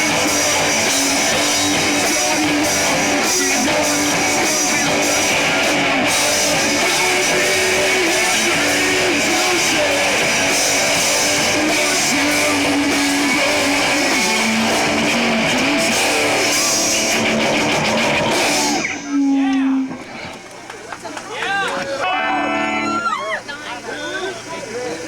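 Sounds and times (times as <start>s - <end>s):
rock band playing live: 0.0s - 20.4s, 22.1s - 23.2s
electric guitar: 0.0s - 20.6s, 22.0s - 23.3s.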